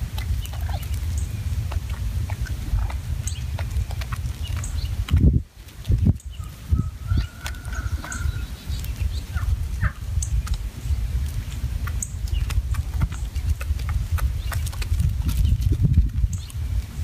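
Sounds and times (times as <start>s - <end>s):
beaks pecking on gravel: 0.0s - 17.0s
low rumble: 0.0s - 17.0s.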